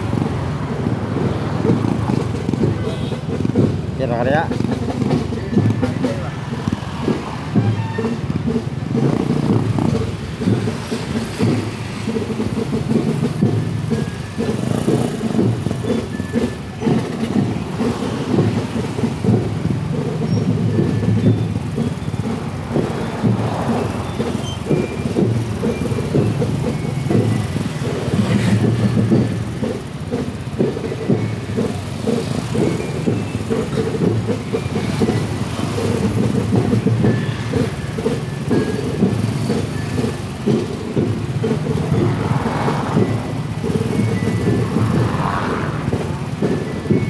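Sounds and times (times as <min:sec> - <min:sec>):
motorcycle engines rumbling: 0:00.0 - 0:47.0.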